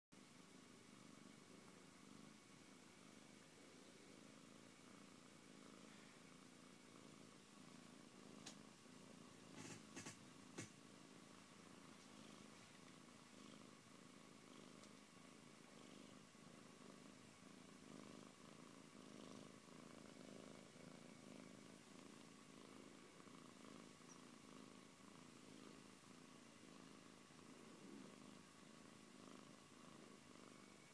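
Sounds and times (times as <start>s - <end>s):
cat purring: 0.2s - 30.9s.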